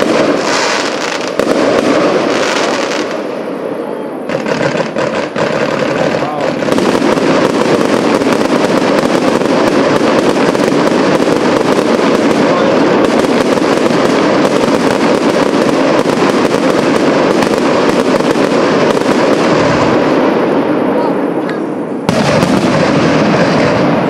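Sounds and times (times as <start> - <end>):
fireworks crackling and popping: 0.0 - 24.0.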